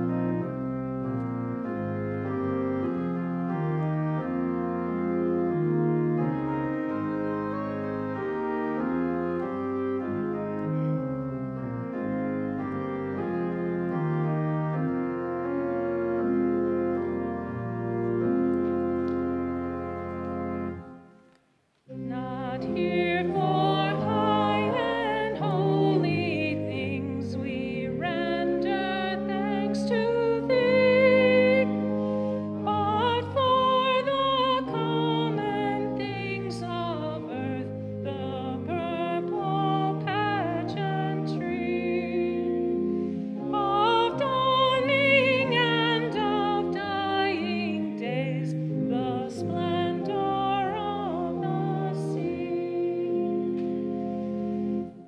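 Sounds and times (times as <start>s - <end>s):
organ chords: 0.0s - 55.0s.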